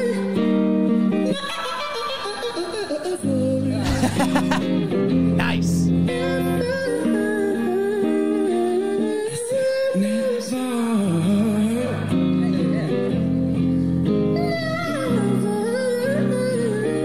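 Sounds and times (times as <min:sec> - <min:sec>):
amplified guitar: 0:00.0 - 0:17.0.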